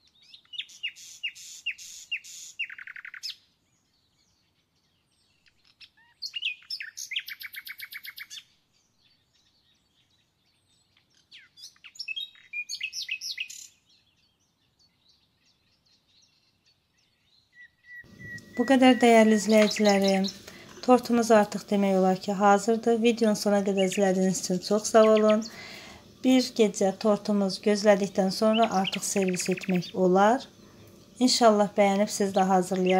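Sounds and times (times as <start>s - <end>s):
songbird chirping and trilling: 0.0s - 32.9s.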